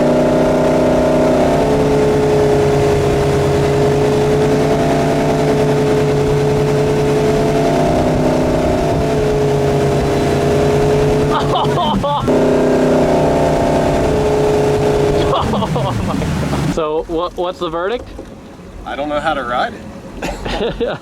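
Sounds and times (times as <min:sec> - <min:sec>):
boat engine running steadily: 0:00.0 - 0:21.0.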